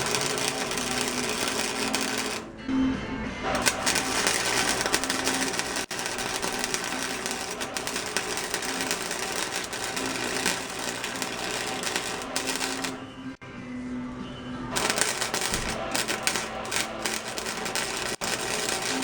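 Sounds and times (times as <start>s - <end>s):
welding arc crackle: 0.0s - 2.5s, 3.6s - 13.1s, 14.8s - 19.0s.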